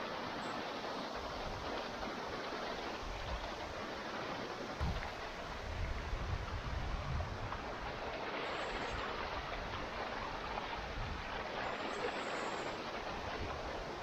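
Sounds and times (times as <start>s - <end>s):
stream and waterfall rushing: 0.0s - 14.0s.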